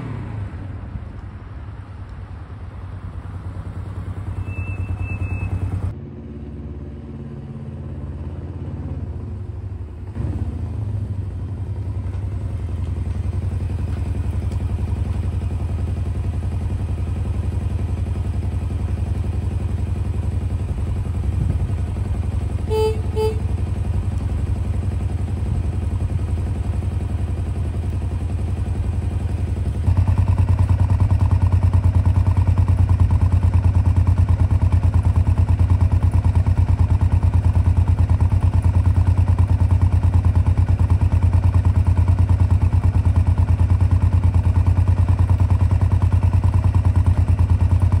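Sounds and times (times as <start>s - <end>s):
motorcycle engine idling: 1.1s - 48.0s.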